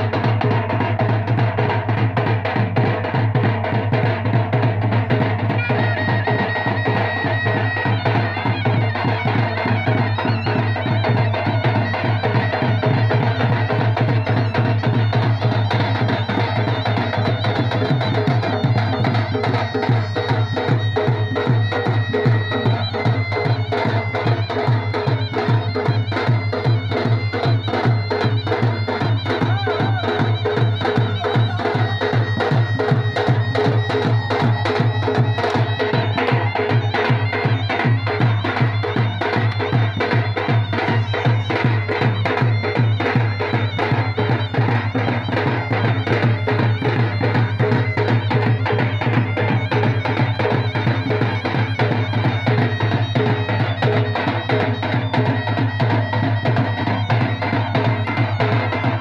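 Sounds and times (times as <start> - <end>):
fast drumming: 0.0 - 59.0
reedy double-reed pipe melody: 5.5 - 59.0.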